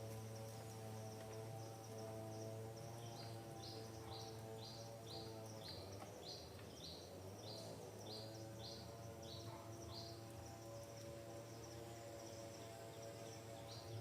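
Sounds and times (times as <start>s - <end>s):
faint low drone: 0.0s - 14.0s.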